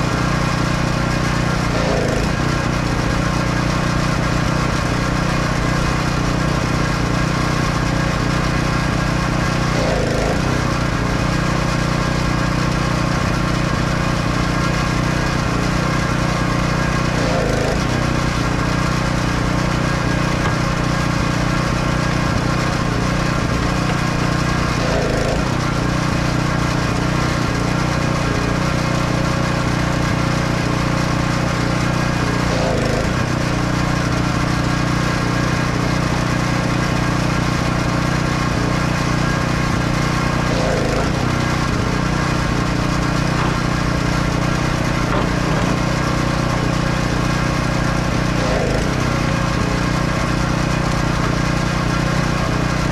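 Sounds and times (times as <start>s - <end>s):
machine drone: 0.0s - 52.9s.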